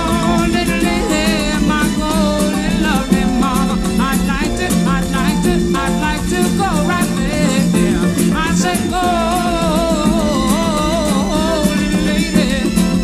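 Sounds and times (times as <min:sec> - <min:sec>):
upbeat latin band music: 0:00.0 - 0:13.0.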